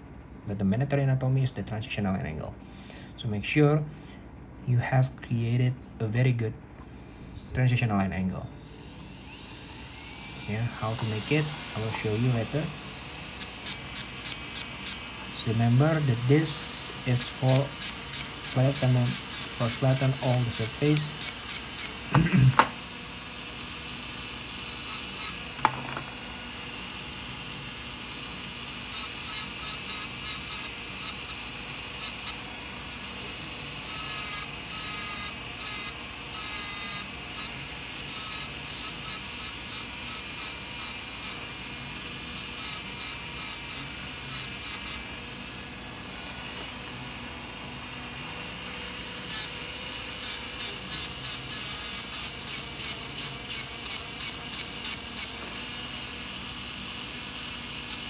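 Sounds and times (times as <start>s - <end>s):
dental handpiece high whine: 8.5s - 58.0s.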